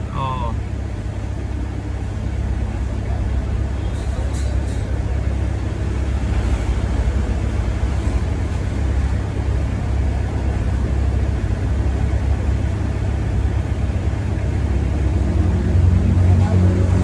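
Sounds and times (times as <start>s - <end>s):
air conditioning: 0.0s - 17.0s
car engine rumble: 0.0s - 17.0s.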